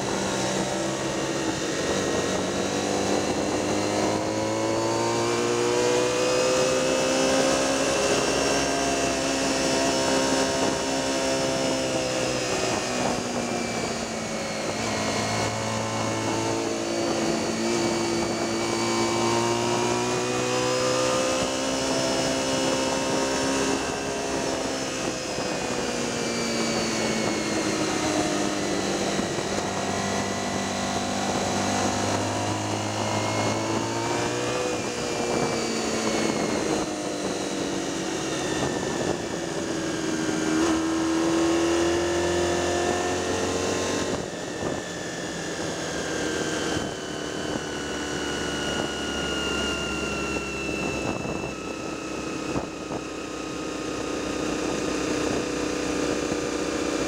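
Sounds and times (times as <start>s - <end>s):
racing motorcycle engine: 0.0s - 57.0s.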